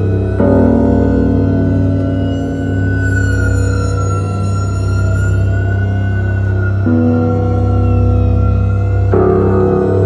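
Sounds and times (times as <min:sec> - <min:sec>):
deep sustained drone: 0:00.0 - 0:10.0.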